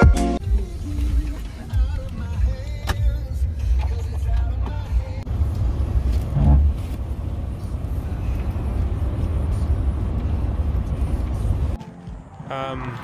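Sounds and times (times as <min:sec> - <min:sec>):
car cabin road rumble: 0:00.5 - 0:11.8.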